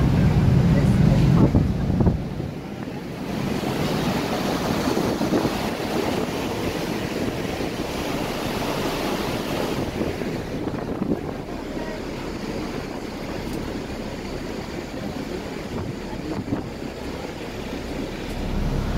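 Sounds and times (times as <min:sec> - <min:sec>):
water rushing past hull: 0:00.0 - 0:18.9
wind buffeting microphone: 0:00.0 - 0:18.9.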